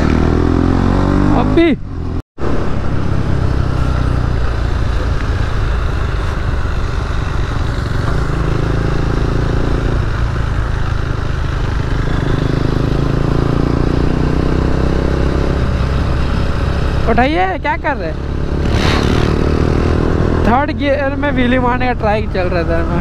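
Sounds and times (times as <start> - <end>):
motorcycle engine running: 0.0 - 23.0
second motorcycle riding alongside: 0.0 - 23.0.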